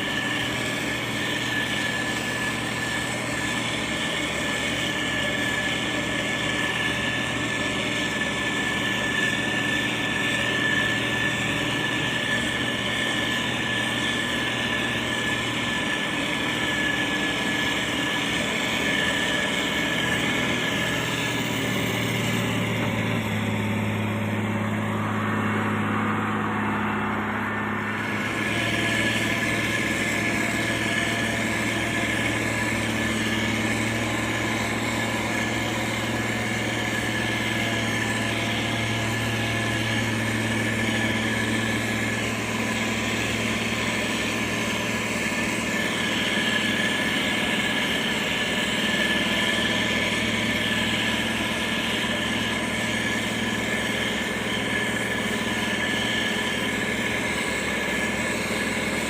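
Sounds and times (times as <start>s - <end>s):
diesel engine droning with whine: 0.0s - 59.0s.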